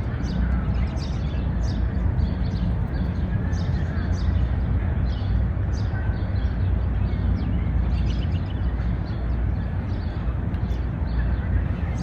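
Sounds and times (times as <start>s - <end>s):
low rumble of traffic: 0.0s - 12.0s
small birds chirping: 0.0s - 12.0s.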